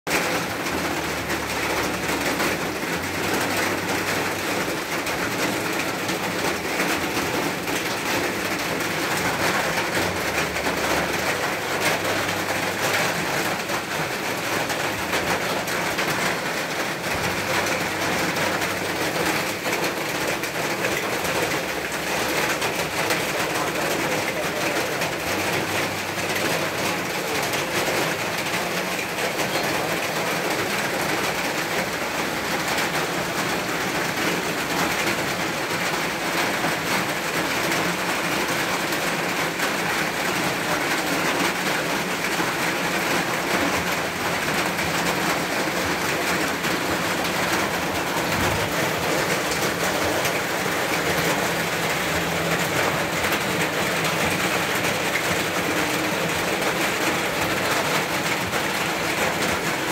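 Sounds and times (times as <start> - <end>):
heavy rain: 0.1 - 59.9.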